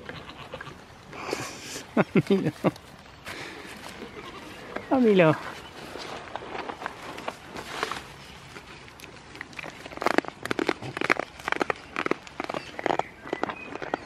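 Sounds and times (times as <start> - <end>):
goats chewing leafy plants: 0.0 - 14.0.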